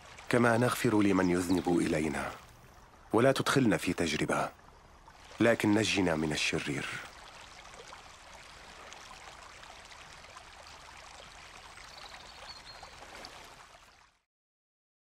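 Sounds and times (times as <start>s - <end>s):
stream water rushing over rocks: 0.0s - 13.9s.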